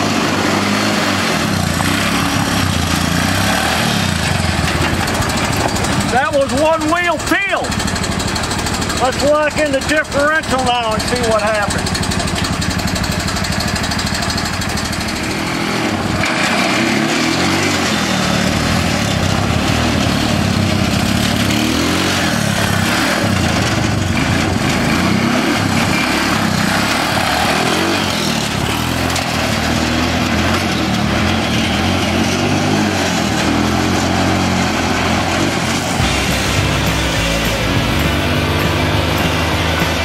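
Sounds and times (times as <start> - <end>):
small engine revving: 0.0 - 40.0.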